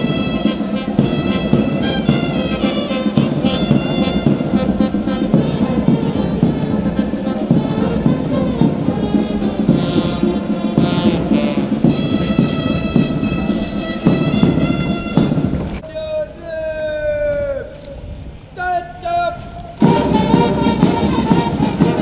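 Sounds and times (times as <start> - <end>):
orchestral music with brass: 0.0 - 15.8, 19.8 - 22.0.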